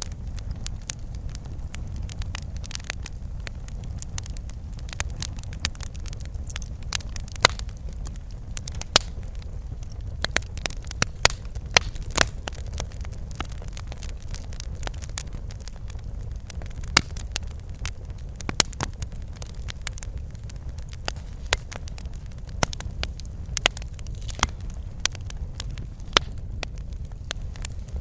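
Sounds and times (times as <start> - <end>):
fireplace fire crackling and popping: 0.0 - 28.0
low rumble of flames: 0.0 - 28.0.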